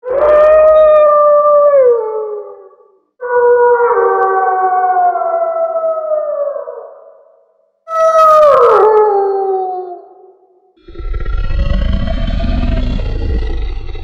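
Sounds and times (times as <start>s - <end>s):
wolf-like howl: 0.0s - 7.1s, 7.9s - 10.2s, 10.9s - 14.0s.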